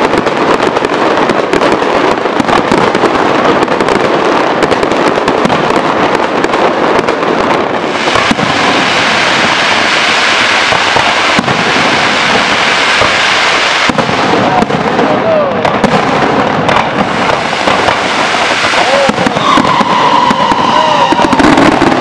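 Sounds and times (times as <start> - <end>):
fireworks crackling: 0.0 - 22.0
hiss of fireworks fountains: 0.0 - 22.0
sharp firework bangs: 0.0 - 22.0.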